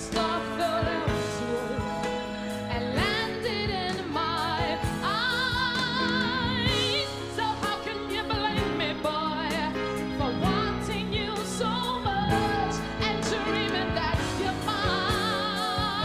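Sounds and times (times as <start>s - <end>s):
woman singing into a microphone: 0.0s - 16.0s.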